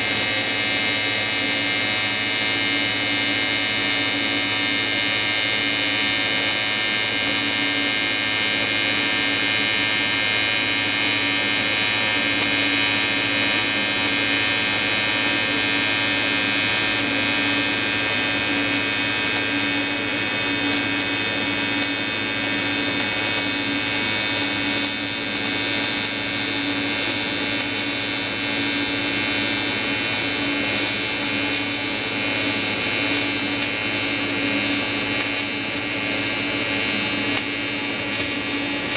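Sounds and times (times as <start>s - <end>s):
welding arc buzzing: 0.0s - 38.9s.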